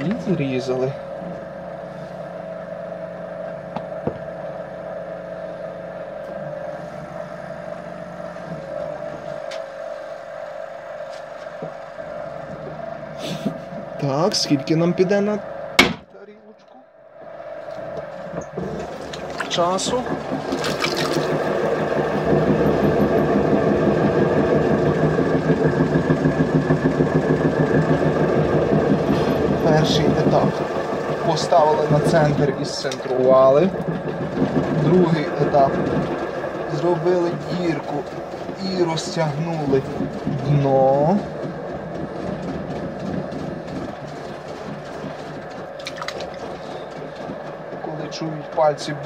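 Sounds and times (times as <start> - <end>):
potter's wheel motor humming: 0.0 - 49.0.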